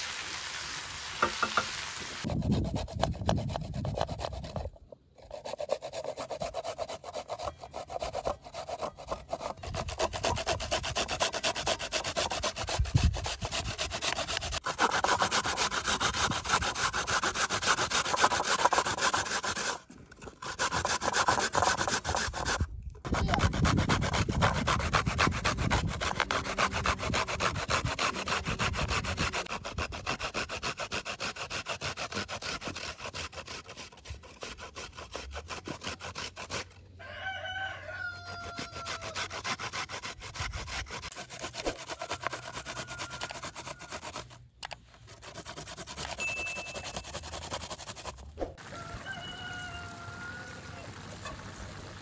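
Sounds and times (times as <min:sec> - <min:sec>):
coconut grating on metal grater: 0:01.2 - 0:36.8, 0:38.1 - 0:49.3.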